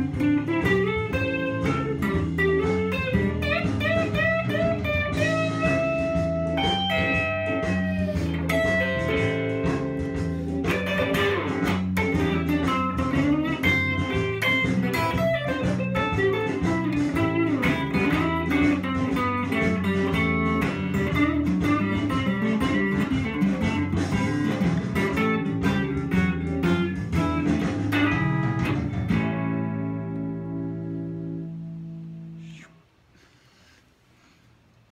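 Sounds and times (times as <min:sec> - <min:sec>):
electric guitar blues lead: 0:00.0 - 0:32.8.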